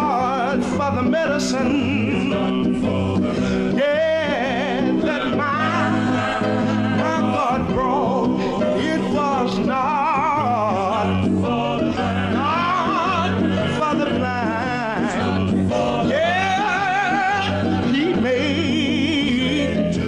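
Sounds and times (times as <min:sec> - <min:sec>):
male gospel group singing: 0:00.0 - 0:20.0.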